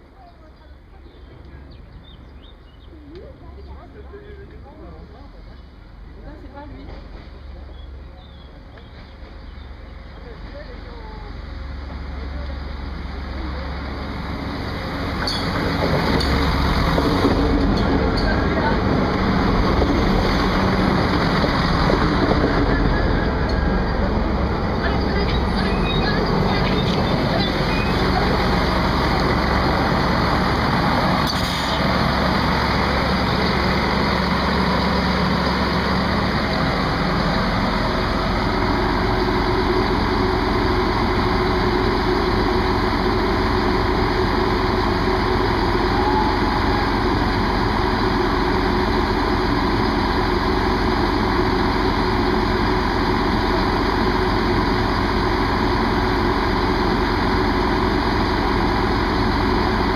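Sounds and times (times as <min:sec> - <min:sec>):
diesel train engine idling: 0:00.0 - 0:59.9.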